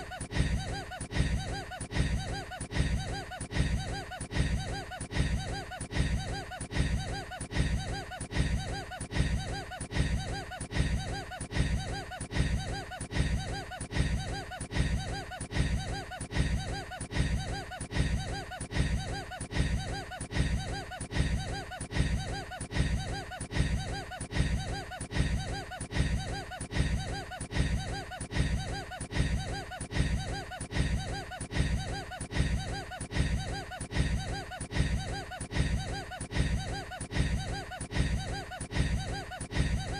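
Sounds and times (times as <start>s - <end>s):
man laughing: 0.0s - 39.9s.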